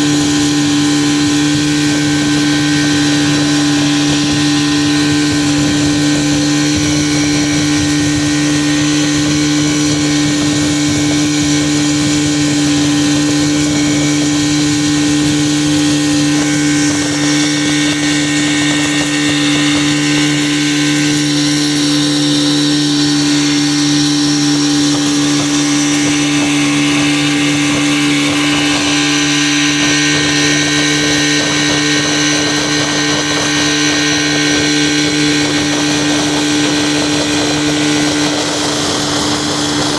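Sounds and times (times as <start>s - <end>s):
motorboat engine humming: 0.0s - 39.9s
water hissing: 0.0s - 39.9s
wind: 0.0s - 39.9s.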